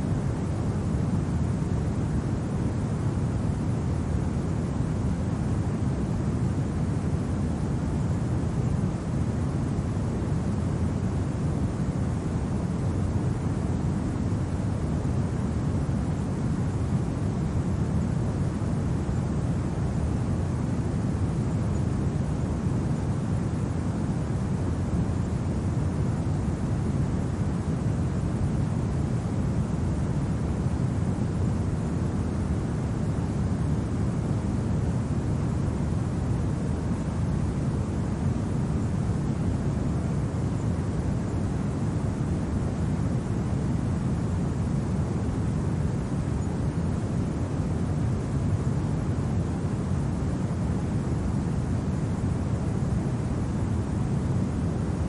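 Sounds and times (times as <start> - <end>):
low rumble of wind: 0.0 - 55.0.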